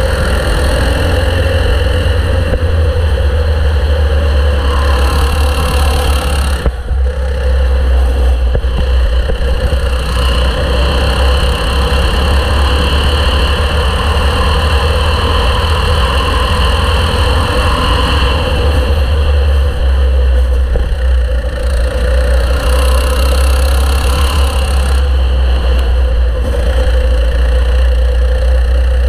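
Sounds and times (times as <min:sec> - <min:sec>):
steady low rumble: 0:00.0 - 0:22.9, 0:25.0 - 0:29.0
kart engine running: 0:00.0 - 0:29.0.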